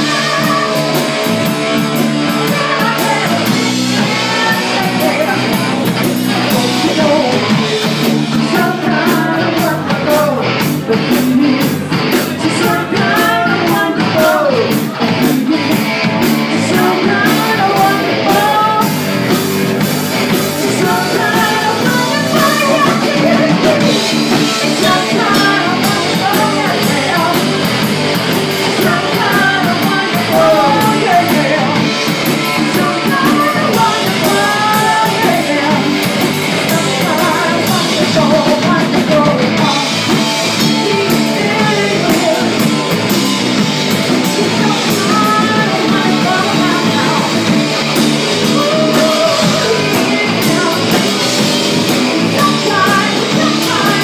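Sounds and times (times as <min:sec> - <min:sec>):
drum kit: 0:00.0 - 0:54.0
electric bass: 0:00.0 - 0:54.0
electric guitar: 0:00.0 - 0:54.0
woman singing lead: 0:00.0 - 0:54.0.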